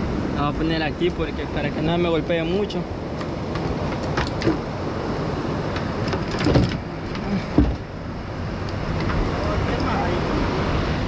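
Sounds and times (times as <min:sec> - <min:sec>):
surf washing: 0:00.0 - 0:11.0.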